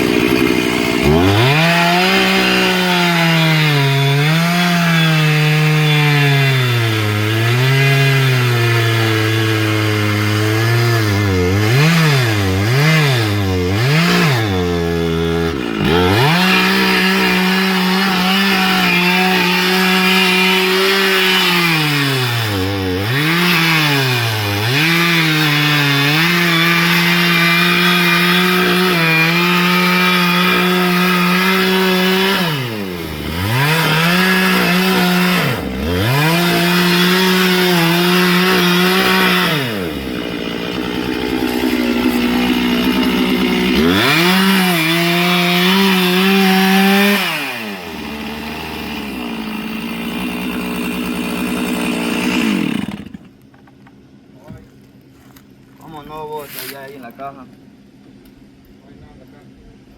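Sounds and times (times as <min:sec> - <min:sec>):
chainsaw cutting wood: 0:00.0 - 0:54.7.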